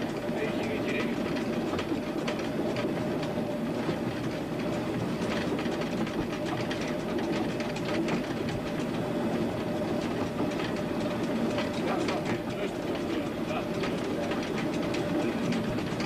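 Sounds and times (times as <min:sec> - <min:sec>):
train running on track: 0:00.0 - 0:16.0
wheels clicking over rail: 0:00.0 - 0:16.0.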